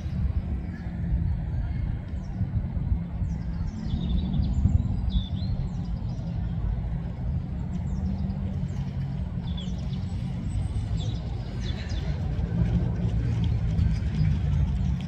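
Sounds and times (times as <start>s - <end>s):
low rumble of road traffic: 0.0s - 15.0s.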